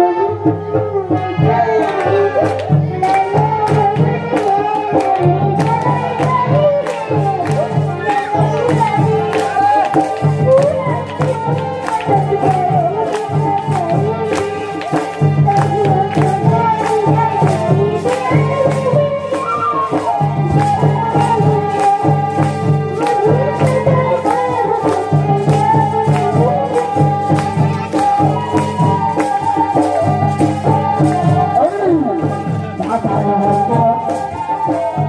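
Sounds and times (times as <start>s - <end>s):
barrel drum beat: 0.0s - 35.0s.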